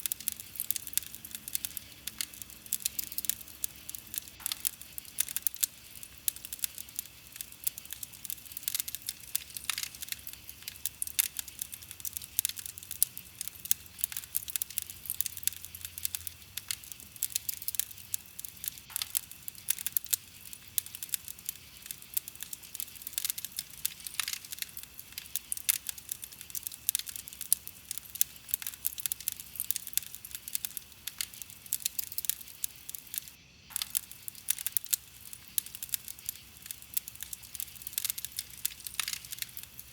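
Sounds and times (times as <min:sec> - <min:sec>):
campfire crackling: 0:00.0 - 0:39.9
deeper pops from burning wood: 0:00.0 - 0:39.9.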